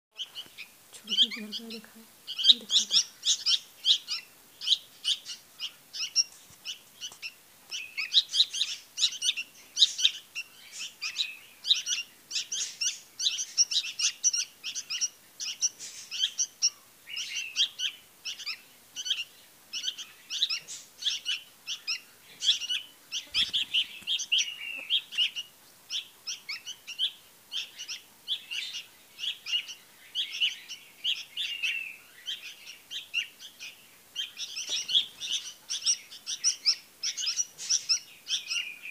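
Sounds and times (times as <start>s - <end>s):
fledglings chirping: 0.1s - 38.9s.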